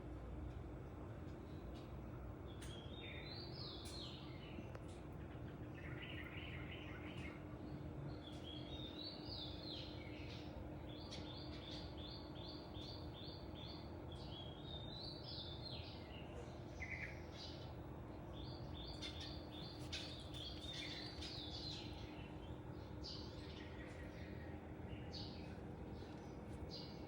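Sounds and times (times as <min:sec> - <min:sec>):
faint steady hum: 0:00.0 - 0:27.0
songbird singing: 0:02.4 - 0:27.0.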